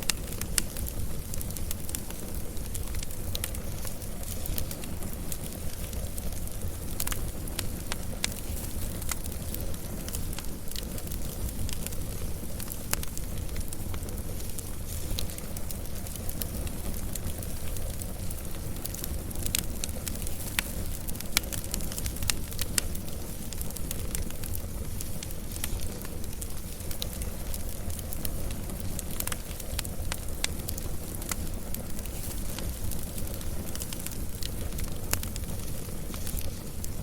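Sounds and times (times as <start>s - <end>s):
crackles and pops from logs: 0.0s - 37.0s
wood fire rumbling: 0.0s - 37.0s.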